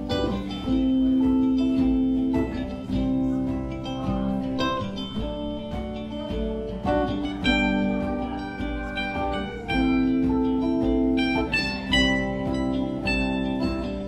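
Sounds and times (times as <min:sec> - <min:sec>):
congas: 0:00.0 - 0:14.0
electric guitars picking notes: 0:00.0 - 0:14.0.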